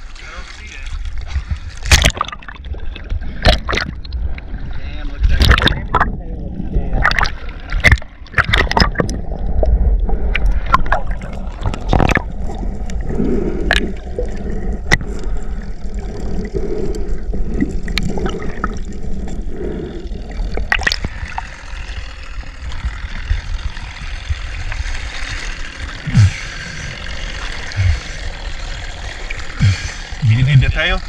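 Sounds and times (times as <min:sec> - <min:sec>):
steady low rumble: 0:00.0 - 0:31.0
water rushing and gurgling: 0:00.0 - 0:31.0.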